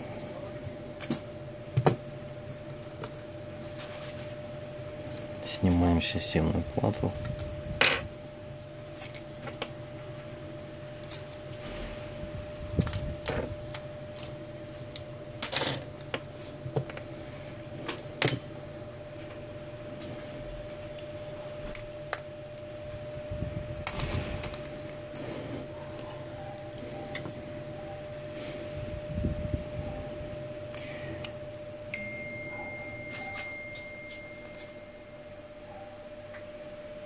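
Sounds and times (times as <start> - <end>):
faint hum: 0.0 - 37.0.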